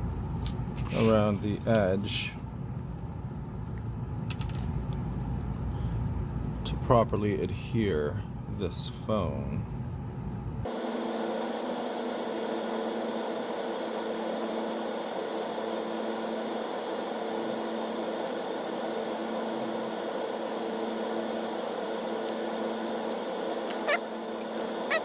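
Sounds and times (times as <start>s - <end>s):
electrical hum with hiss: 0.0s - 25.0s.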